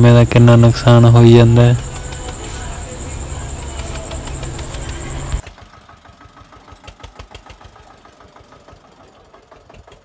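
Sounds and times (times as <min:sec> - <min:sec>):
tractor diesel engine knocking: 0:00.0 - 0:10.0.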